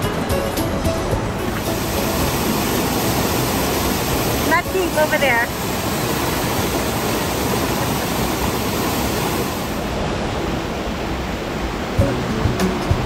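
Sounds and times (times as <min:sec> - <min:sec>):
rushing water of waterfall: 0:00.0 - 0:13.0.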